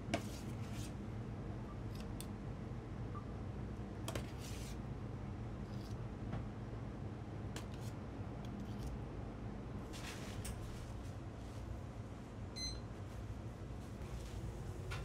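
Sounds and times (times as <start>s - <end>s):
low hum of kitchen equipment: 0.0s - 15.0s.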